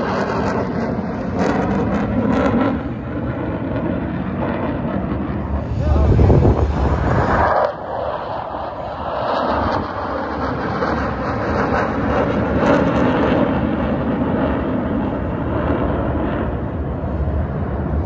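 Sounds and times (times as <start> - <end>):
airplane engine overhead: 0.0 - 18.0
wind buffeting microphone: 0.0 - 18.0.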